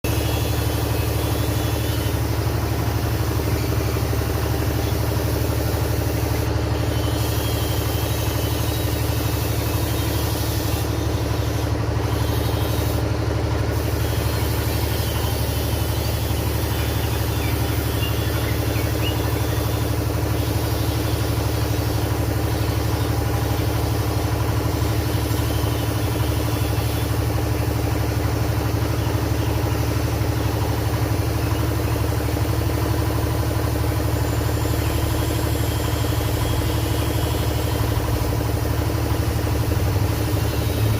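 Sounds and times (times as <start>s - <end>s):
motor humming with fast pulse: 0.0s - 40.9s.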